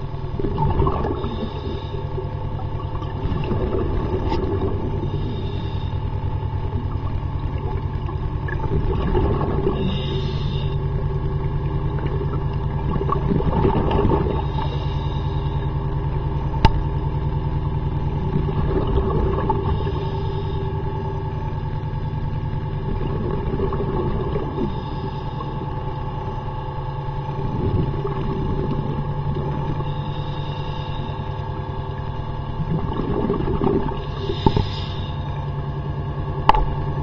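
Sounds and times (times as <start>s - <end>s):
underwater boat propeller drone: 0.0s - 37.0s.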